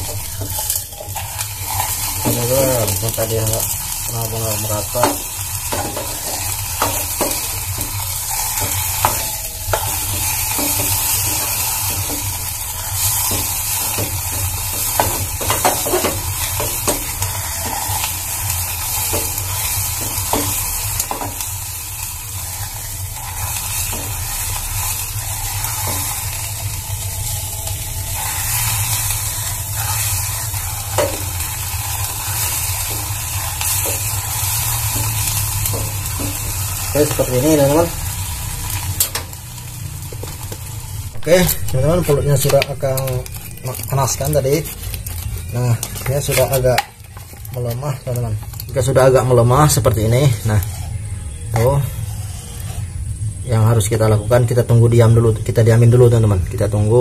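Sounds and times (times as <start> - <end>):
sizzling hiss in a can: 0.0 - 57.0.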